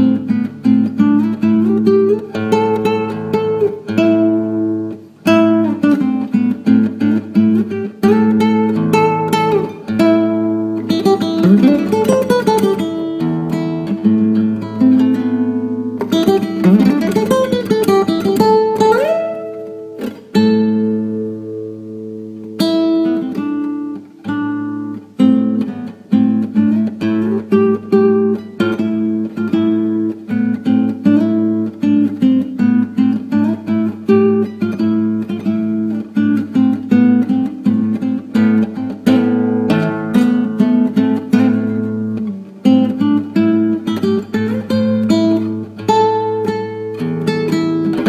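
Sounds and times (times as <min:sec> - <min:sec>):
acoustic guitar playing: 0:00.0 - 0:48.0.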